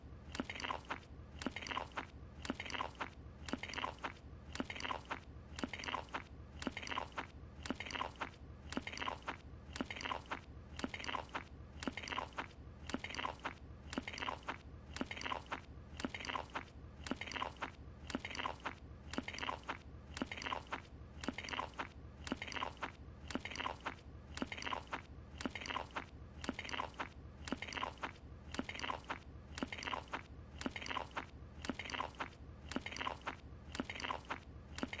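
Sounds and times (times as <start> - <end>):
crunchy chewing: 0.2 - 35.0.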